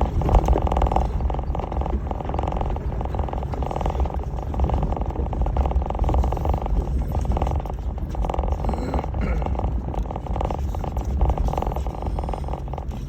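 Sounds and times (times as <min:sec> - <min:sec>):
car engine rumbling: 0:00.0 - 0:13.0
road noise on dirt trail: 0:00.0 - 0:13.0.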